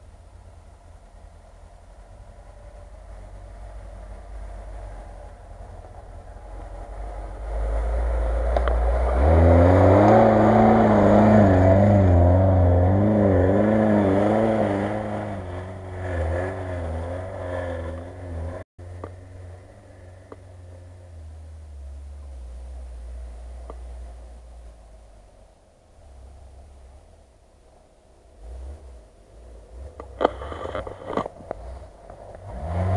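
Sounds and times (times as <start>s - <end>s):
car engine pulling hard: 0.0s - 32.9s.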